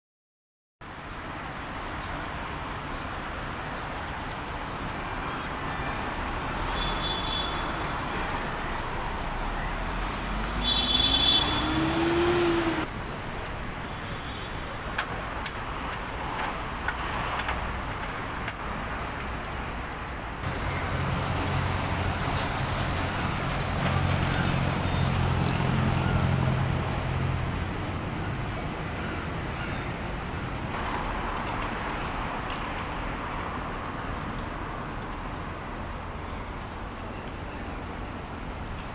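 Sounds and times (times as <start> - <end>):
traffic noise: 0.8 - 38.9.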